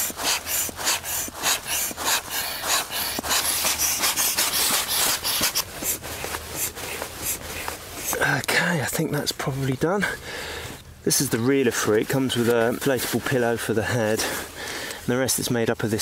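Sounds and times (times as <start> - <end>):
mat fabric rustling: 0.0 - 14.5.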